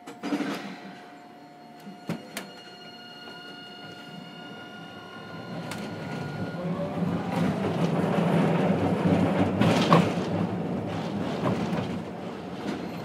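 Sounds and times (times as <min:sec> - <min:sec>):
tram wheel and motor rumble: 0:00.0 - 0:13.0.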